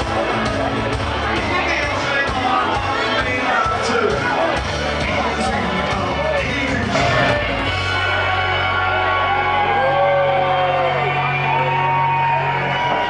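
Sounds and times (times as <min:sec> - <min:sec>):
bass notes: 0:00.0 - 0:13.0
rock band holding a chord: 0:00.0 - 0:13.0
voices singing or calling out: 0:00.0 - 0:13.0.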